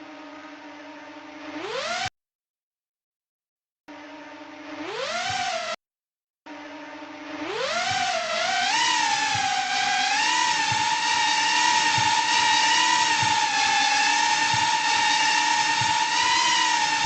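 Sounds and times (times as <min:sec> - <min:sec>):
synthesized quadcopter motor whine: 0:00.0 - 0:02.2, 0:03.9 - 0:05.8, 0:06.4 - 0:17.0.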